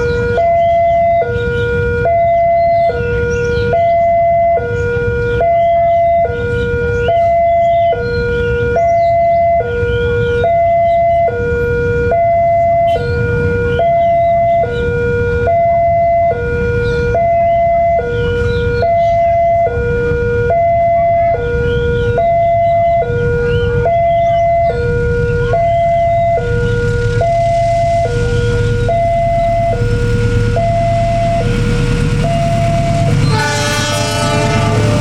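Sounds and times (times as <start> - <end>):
constant low rumble: 0.0 - 35.0
two-tone electronic warning alarm: 0.0 - 35.0.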